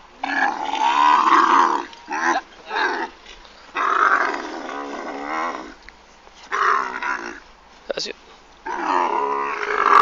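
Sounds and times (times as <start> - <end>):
camel groaning: 0.2 - 5.8, 6.4 - 7.5, 8.6 - 10.0.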